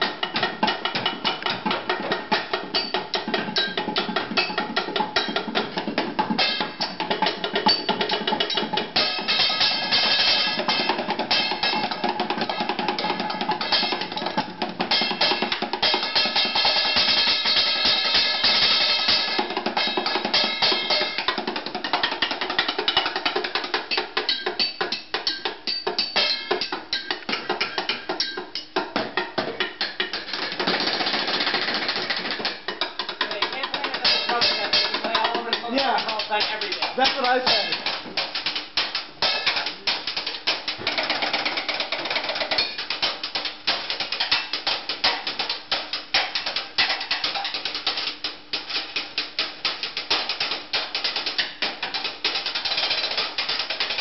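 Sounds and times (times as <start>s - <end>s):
drumsticks beating on refrigerator: 0.0s - 54.0s.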